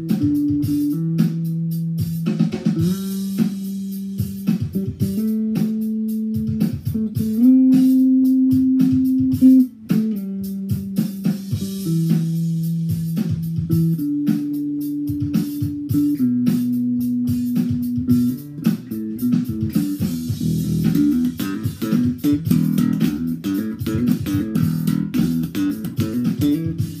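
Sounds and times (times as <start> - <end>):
electric bass playing: 0.0 - 27.0.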